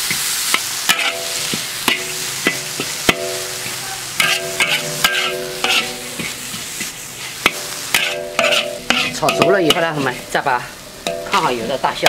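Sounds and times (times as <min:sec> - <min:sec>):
metal spatula scraping a wok: 0:00.0 - 0:11.6
steady sizzle: 0:00.0 - 0:12.0
wok ringing: 0:00.0 - 0:12.0.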